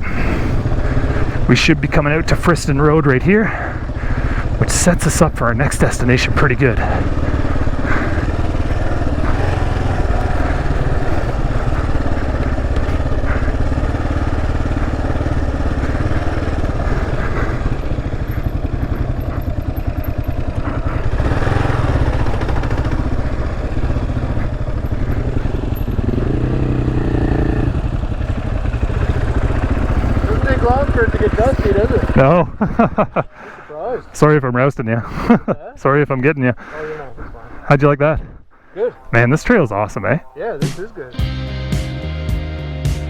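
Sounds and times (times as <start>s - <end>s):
motorcycle engine running: 0.0s - 34.4s, 38.9s - 43.0s.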